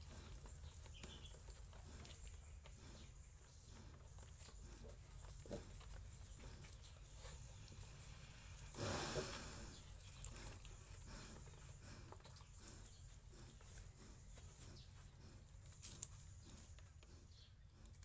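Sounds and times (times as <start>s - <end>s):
pigs rustling and shuffling: 0.0s - 18.0s.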